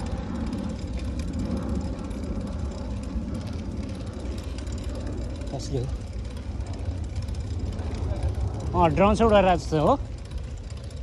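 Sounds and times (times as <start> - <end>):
bicycle tyres rolling: 0.0 - 11.0
wind rumble on microphone: 0.0 - 11.0.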